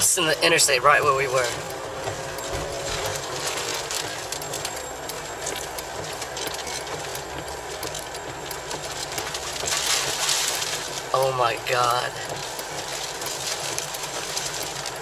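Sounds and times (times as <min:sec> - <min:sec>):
car road rumble: 0:00.0 - 0:15.0
rain ticking on windshield: 0:00.0 - 0:15.0.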